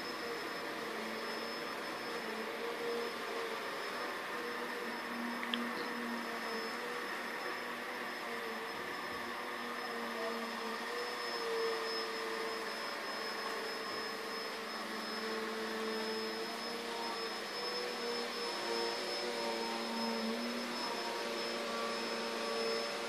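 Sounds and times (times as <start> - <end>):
small motor whirring hum: 0.0 - 23.0
thin high whine: 0.0 - 23.0.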